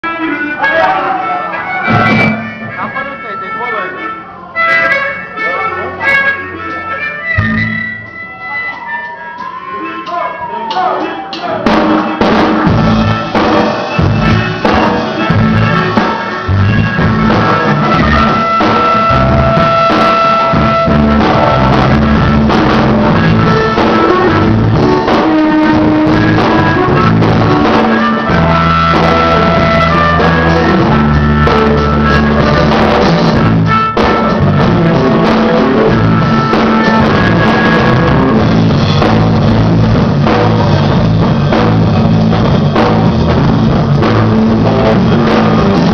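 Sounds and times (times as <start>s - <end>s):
harmonica holding long notes: 0.0s - 10.7s, 12.1s - 40.9s
bass guitar: 0.0s - 45.9s
guitar: 0.0s - 45.9s
drum kit: 0.6s - 3.6s, 4.5s - 45.9s.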